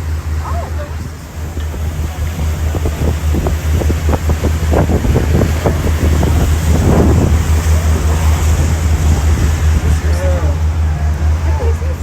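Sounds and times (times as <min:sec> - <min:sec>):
boat engine rumble: 0:00.0 - 0:12.0
water splashing against hull: 0:00.0 - 0:12.0
wind buffeting microphone: 0:00.0 - 0:12.0.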